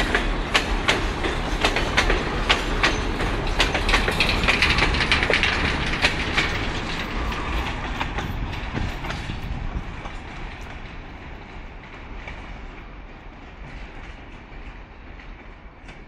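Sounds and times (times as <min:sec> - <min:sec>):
freight train rumble: 0:00.0 - 0:16.0
train wheels clickety-clack: 0:00.0 - 0:16.0.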